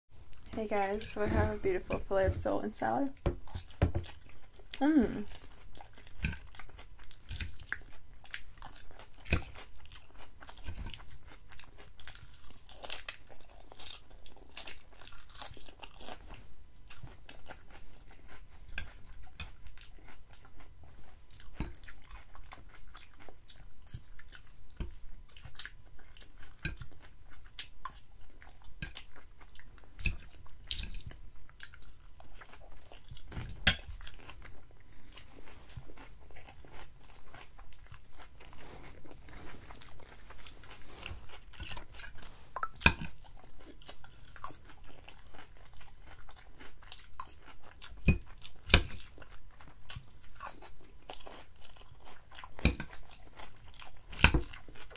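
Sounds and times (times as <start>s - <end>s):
person chewing crisp lettuce: 0.2s - 1.2s, 3.2s - 54.9s.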